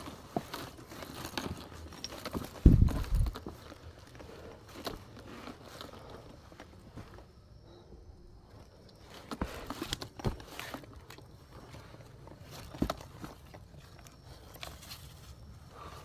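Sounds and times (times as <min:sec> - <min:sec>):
footsteps on mountain trail: 0:00.0 - 0:07.8, 0:08.9 - 0:16.0.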